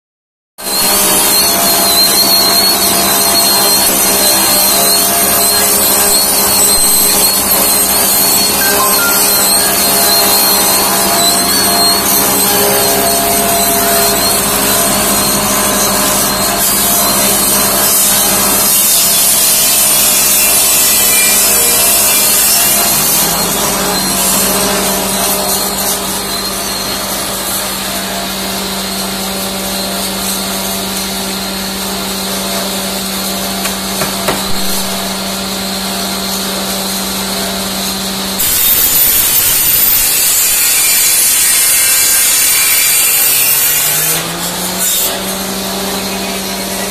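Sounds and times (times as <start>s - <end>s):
machine motor humming: 0.7s - 38.6s.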